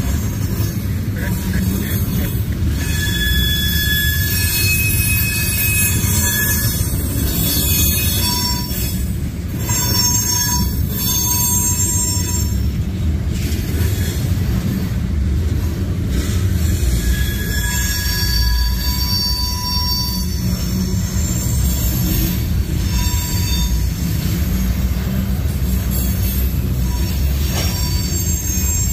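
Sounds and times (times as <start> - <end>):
freight train rumbling past: 0.0 - 28.9
steel wheels squealing: 0.0 - 28.9.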